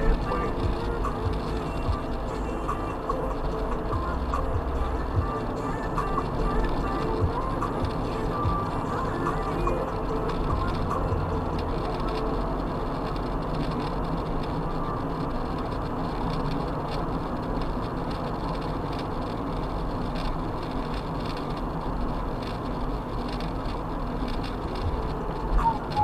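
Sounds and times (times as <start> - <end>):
car engine hum: 0.0 - 26.0
road and tyre rumble: 0.0 - 26.0.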